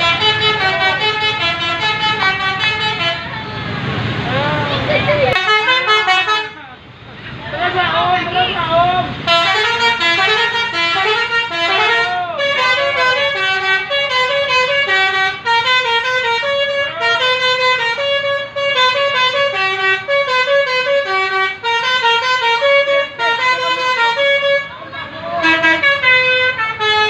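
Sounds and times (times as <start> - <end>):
bus multi-tone horn melody: 0.0 - 3.9, 5.3 - 6.8, 9.2 - 27.0.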